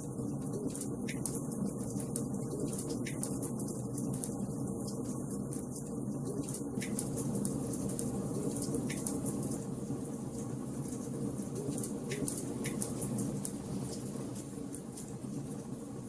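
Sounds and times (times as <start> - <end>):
fire burning: 0.1 - 16.0.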